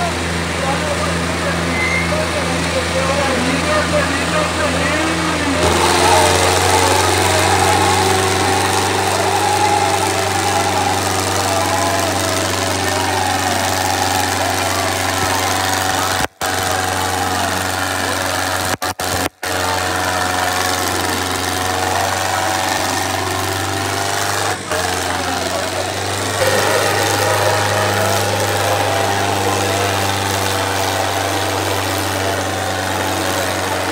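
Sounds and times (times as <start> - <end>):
tractor engines droning: 0.0 - 33.9.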